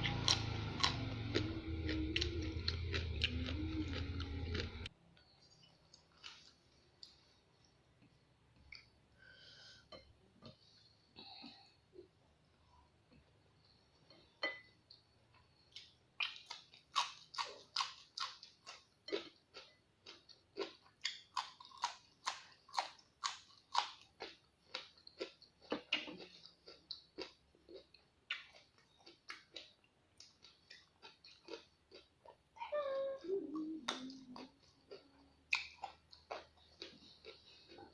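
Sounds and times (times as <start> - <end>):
person chewing crisp vegetables: 0.0 - 9.5, 13.0 - 32.6, 33.5 - 37.9.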